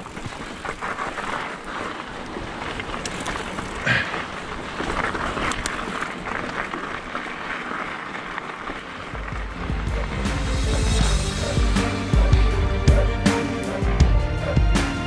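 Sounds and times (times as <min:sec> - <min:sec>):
bike knocking and rattling: 0:00.0 - 0:13.0
bike tyres on dirt trail: 0:00.0 - 0:13.1.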